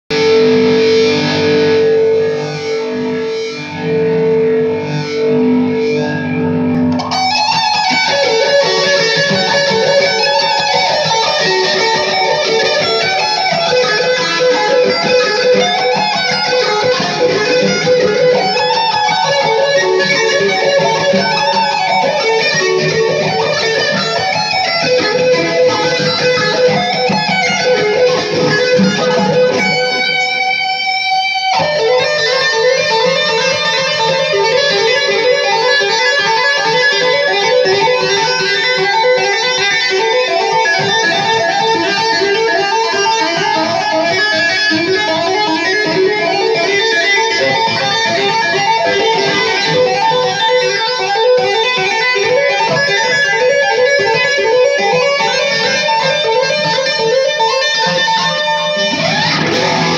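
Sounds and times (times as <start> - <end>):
electric guitar tapping: 0.1 - 59.9.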